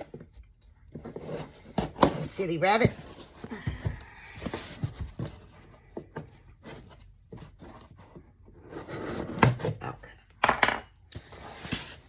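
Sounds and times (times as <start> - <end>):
rustling and scraping: 0.0 - 10.3, 11.2 - 12.0.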